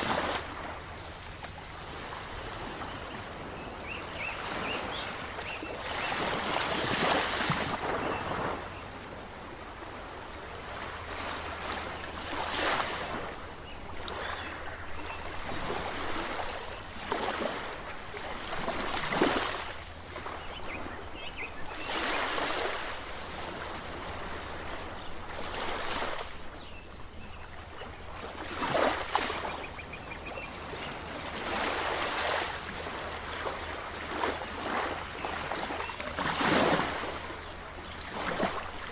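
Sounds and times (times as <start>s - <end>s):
waves breaking: 0.0s - 38.9s.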